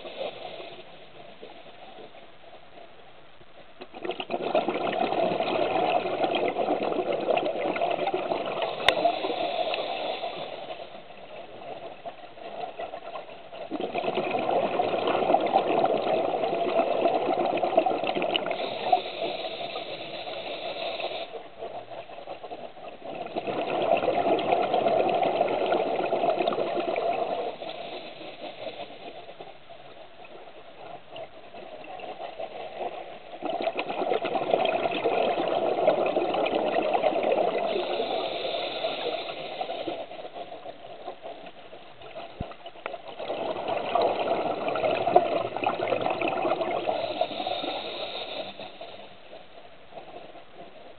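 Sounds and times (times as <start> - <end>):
exhaled bubbles underwater: 3.7 - 50.9.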